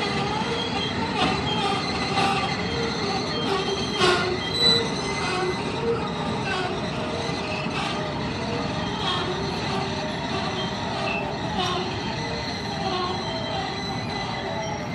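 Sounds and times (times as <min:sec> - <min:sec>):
high wheel squeals: 0:00.0 - 0:14.9
train wheels rumbling on rails: 0:00.0 - 0:14.9.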